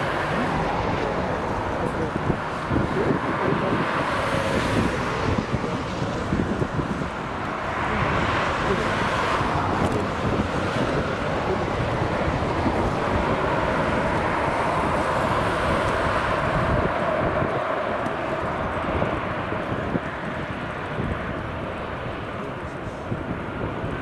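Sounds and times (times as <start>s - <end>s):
jet engines rushing with whine: 0.0s - 24.0s
wind buffeting microphone: 0.0s - 24.0s.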